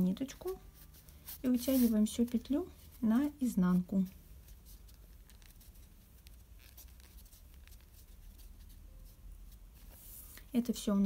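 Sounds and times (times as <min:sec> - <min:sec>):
yarn rustling and scratching: 0:00.2 - 0:10.4.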